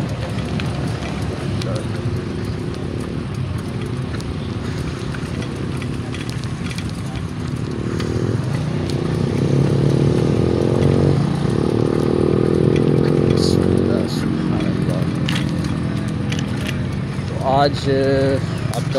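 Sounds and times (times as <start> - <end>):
motorcycle engine running: 0.0 - 18.9
wind and road noise: 0.0 - 18.9.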